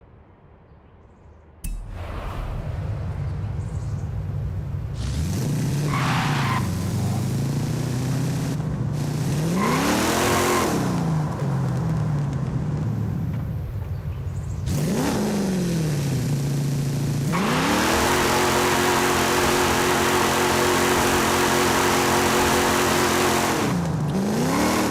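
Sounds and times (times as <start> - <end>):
car engine idling and revving: 3.4 - 24.9.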